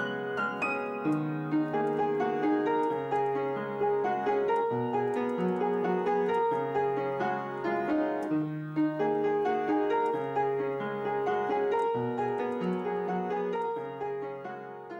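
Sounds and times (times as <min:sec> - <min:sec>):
slow solo piano piece: 0:00.0 - 0:14.9.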